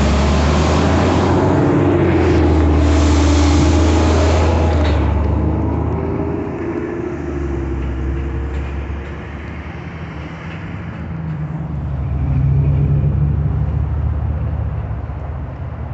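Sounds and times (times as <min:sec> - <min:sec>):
road traffic rumbling: 0:00.0 - 0:15.9
vehicle engine: 0:00.0 - 0:15.9.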